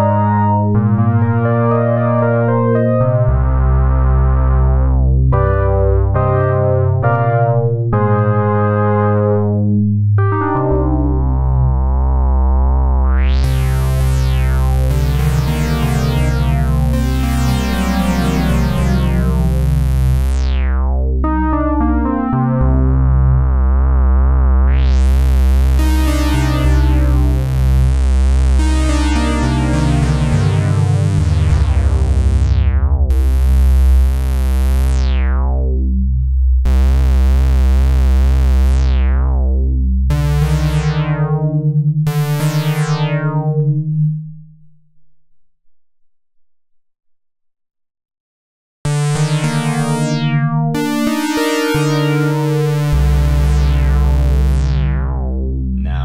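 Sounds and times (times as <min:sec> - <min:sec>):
synthesizer chords over bass note: 0:00.0 - 0:44.4, 0:48.9 - 0:56.0.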